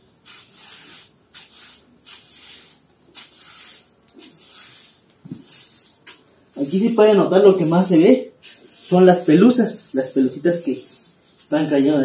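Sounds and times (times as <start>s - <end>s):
broom sweeping concrete floor: 0.0s - 12.0s.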